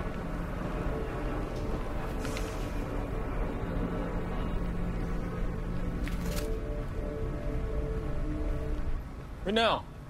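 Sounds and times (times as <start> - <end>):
droning synth music: 0.0 - 10.0.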